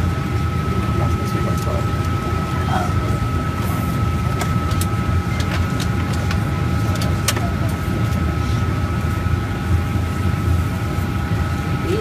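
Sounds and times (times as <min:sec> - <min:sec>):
aircraft engine rumble: 0:00.0 - 0:12.0.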